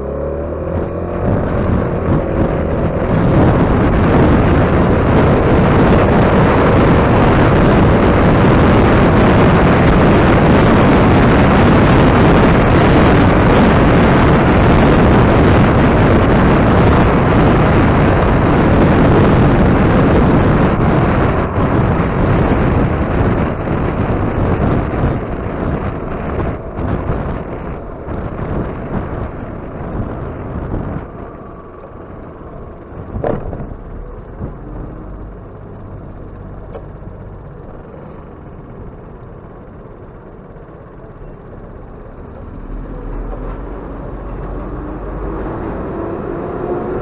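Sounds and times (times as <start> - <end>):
scooter engine: 0.0 - 47.0
wind rush on microphone: 0.0 - 47.0.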